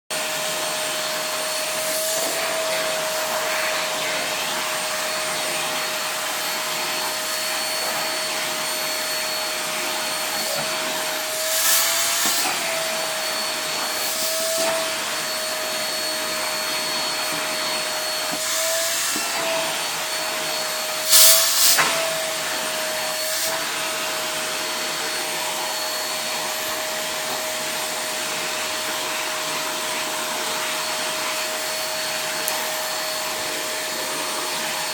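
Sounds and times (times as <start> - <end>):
vacuum cleaner whining: 0.1 - 34.9.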